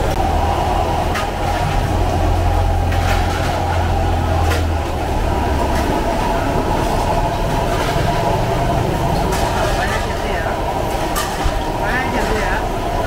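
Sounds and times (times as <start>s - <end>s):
low hum: 0.0s - 11.8s
busy kitchen roar: 0.0s - 13.0s.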